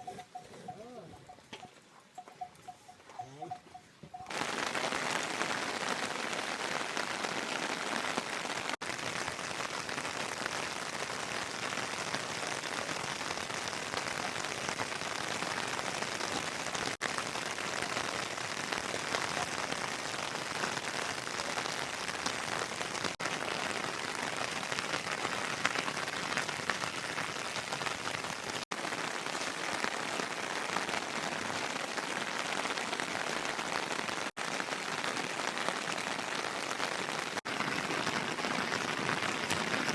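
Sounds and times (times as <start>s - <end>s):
heavy rain falling: 4.3s - 39.9s.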